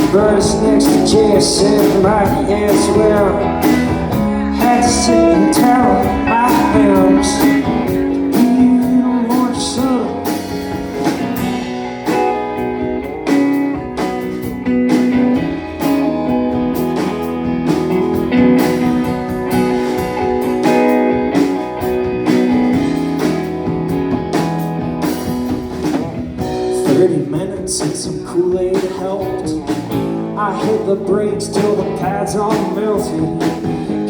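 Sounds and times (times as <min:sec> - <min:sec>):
guitar playing: 0:00.0 - 0:34.0
steady drum beat: 0:00.0 - 0:34.0.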